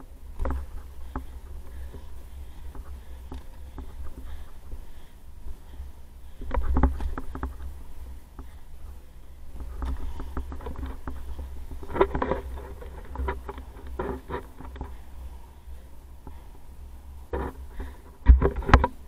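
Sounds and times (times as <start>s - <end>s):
skate wheels rumbling on concrete: 0.0s - 15.4s.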